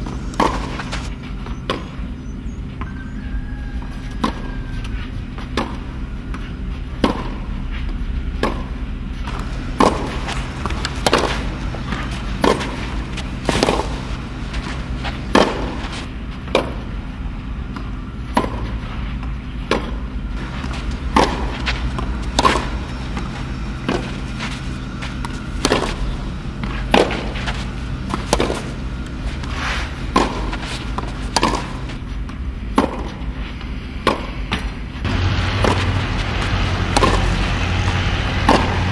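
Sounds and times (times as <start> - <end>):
racket striking tennis ball: 0.0 - 2.0, 4.2 - 4.5, 5.4 - 7.5, 8.3 - 17.0, 17.6 - 38.9
tennis ball bouncing: 0.0 - 3.0, 3.8 - 38.9
low steady hum: 0.0 - 38.9.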